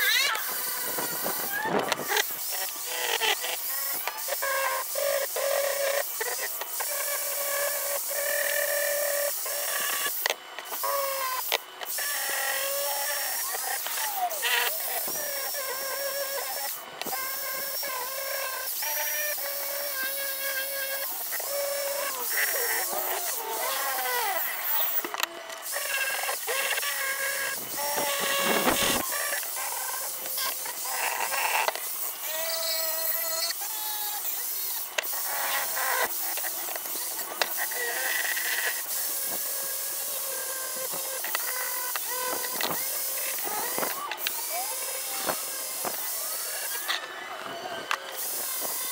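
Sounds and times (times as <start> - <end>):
electric drill motor whine: 0.0 - 48.9.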